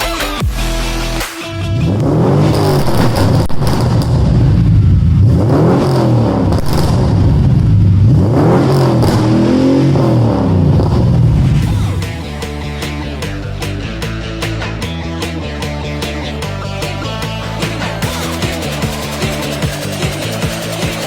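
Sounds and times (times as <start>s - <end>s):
car engine revving: 0.0s - 21.0s
car engine idling: 1.8s - 21.0s.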